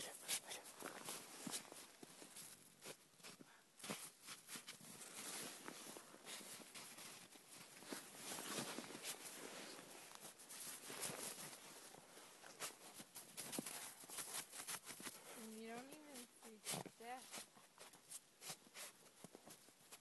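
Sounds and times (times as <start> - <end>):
dog crunching through snow: 0.8 - 19.6.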